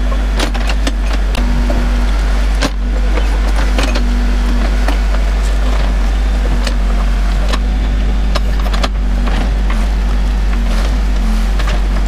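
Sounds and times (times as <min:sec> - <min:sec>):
diesel engine under load: 0:00.0 - 0:12.0
wood and roots cracking: 0:00.3 - 0:12.0.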